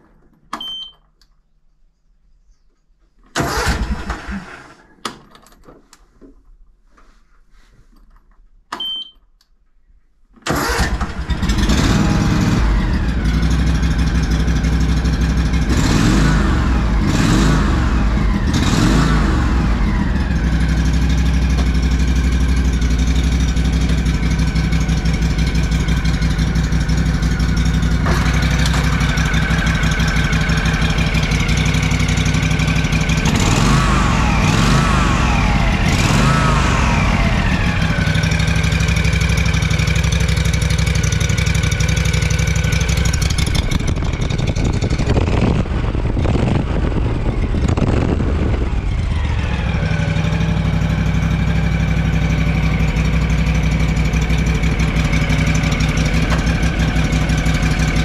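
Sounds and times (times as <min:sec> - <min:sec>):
lawn tractor engine revving: 0:03.4 - 0:04.9, 0:10.5 - 0:58.0.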